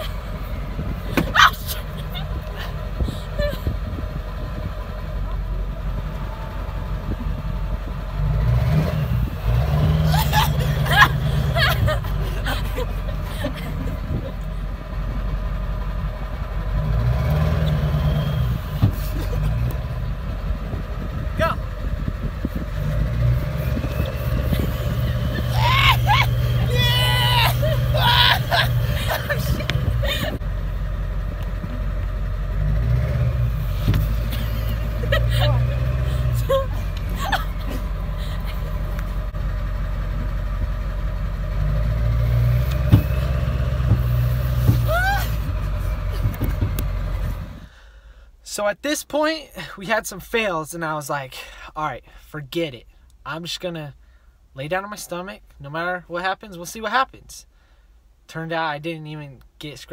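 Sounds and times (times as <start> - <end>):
diesel engine idling: 0.0 - 48.4.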